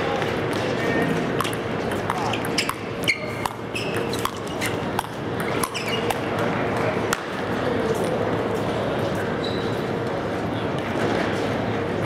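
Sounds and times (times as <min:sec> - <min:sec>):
crowd murmur in large hall: 0:00.0 - 0:12.0.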